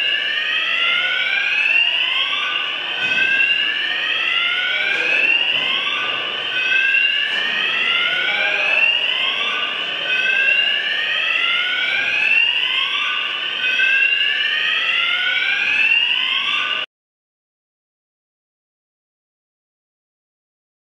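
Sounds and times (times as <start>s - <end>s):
electronic alarm whooping: 0.0s - 16.9s.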